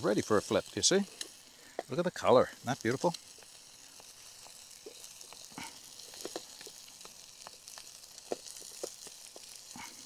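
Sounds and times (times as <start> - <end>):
food sizzling in a frying pan: 0.0 - 10.0
small crackles and clicks: 0.0 - 10.0.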